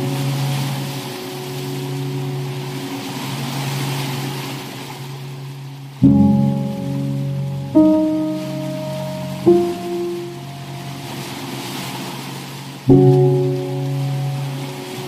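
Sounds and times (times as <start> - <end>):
soft ambient music chords: 0.0 - 15.0.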